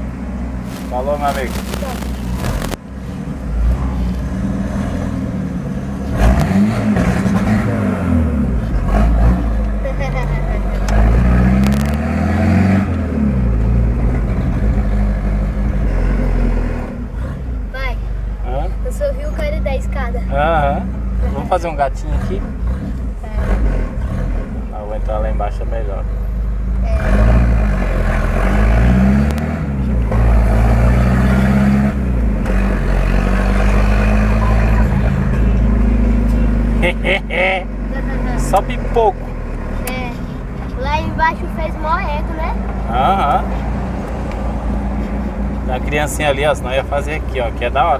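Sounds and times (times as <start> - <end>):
loud car engine running: 0.0 - 47.9.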